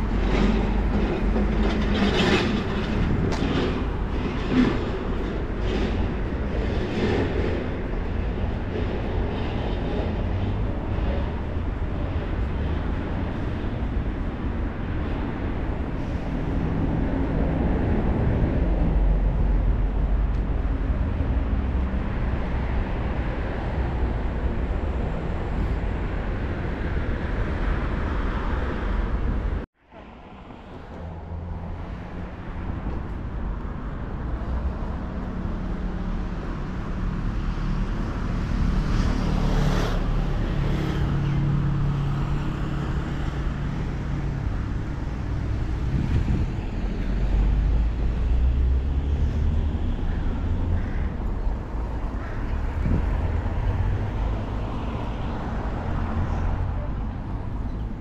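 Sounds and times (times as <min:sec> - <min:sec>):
car traffic rumble: 0:00.0 - 0:58.0
passing vehicle engine hum: 0:00.0 - 0:58.0.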